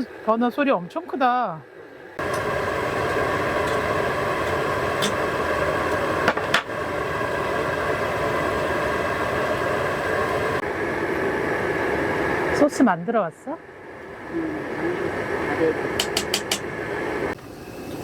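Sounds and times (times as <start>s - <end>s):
gas burner roaring: 2.1s - 18.0s.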